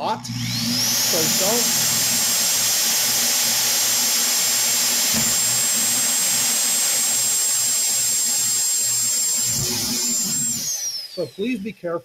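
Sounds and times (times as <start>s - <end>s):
electric drill boring plastic pipe: 0.0s - 11.6s.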